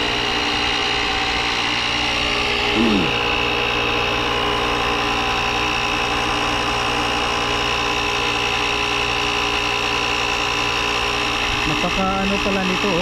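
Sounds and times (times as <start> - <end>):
small motor whining: 0.0 - 13.0.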